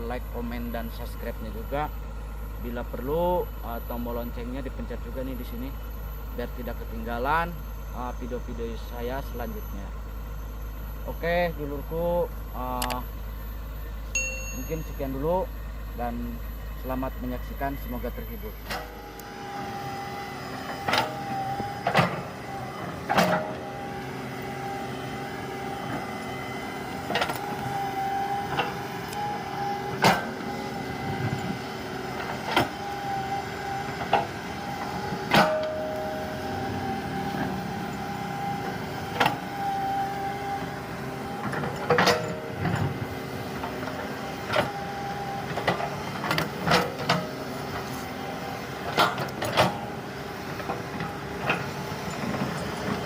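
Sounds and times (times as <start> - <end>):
excavator engine and hydraulics whine: 0.0 - 53.0.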